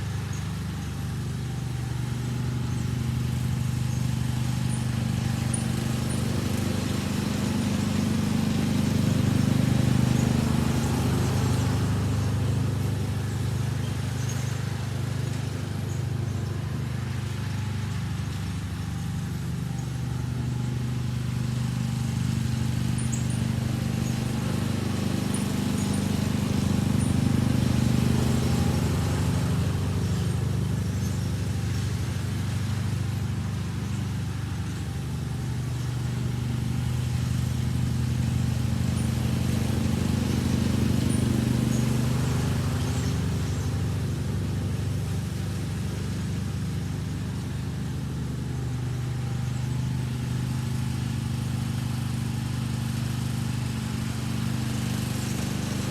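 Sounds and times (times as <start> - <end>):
riding lawn mower engine: 0.0 - 55.9.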